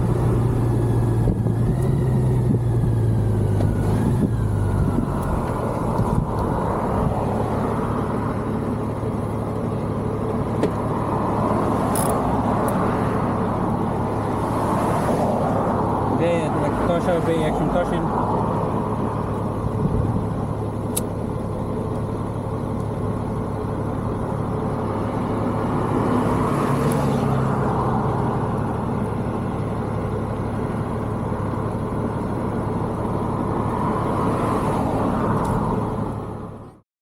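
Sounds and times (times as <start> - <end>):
wind and road noise: 0.0 - 36.8.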